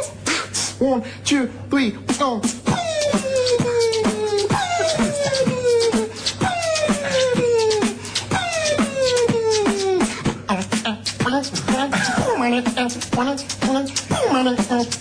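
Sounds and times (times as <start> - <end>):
beatboxing clicks and pops: 2.1 - 15.0
hummed vocal tone sliding down: 2.7 - 15.0.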